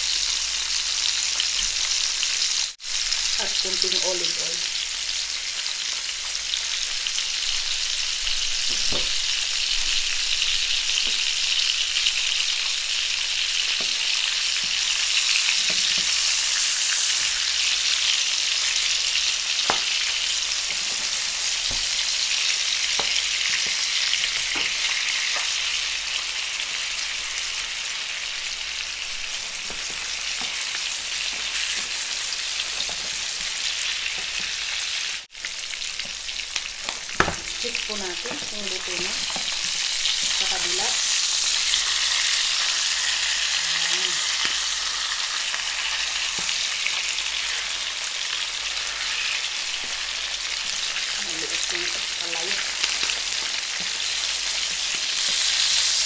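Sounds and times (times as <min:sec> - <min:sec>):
fish sizzling in a frying pan: 0:00.0 - 0:56.0.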